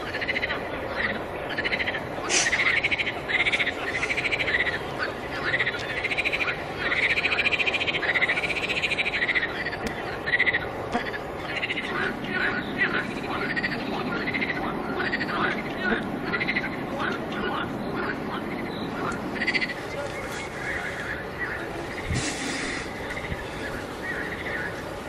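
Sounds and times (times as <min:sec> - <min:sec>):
frogs croaking: 0:00.0 - 0:25.0
steady background hiss: 0:00.0 - 0:25.0.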